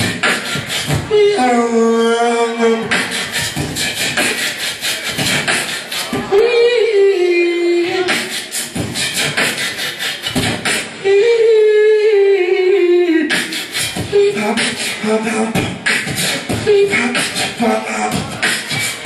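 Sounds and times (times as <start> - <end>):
beatboxing into a microphone: 0.0 - 19.0.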